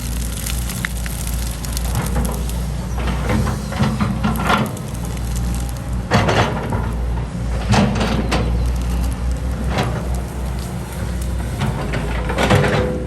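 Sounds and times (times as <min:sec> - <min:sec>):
heavy diesel engine running: 0:00.0 - 0:13.0
scraping and clattering of soil and rock: 0:00.0 - 0:13.0.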